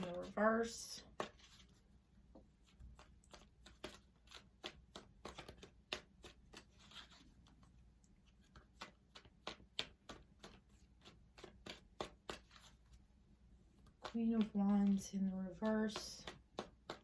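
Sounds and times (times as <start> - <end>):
cards being shuffled: 0.0 - 13.0, 13.8 - 17.0.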